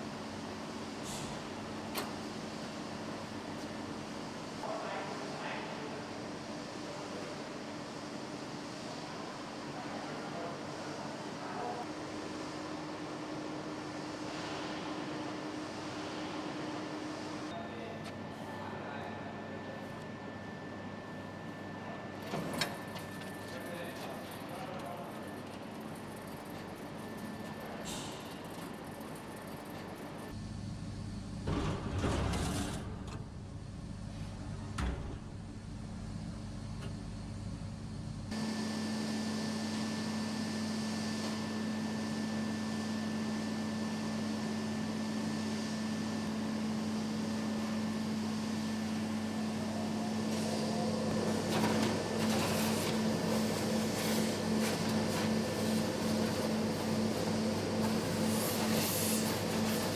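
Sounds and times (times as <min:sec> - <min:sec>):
industrial machinery hum: 0:00.0 - 0:59.9.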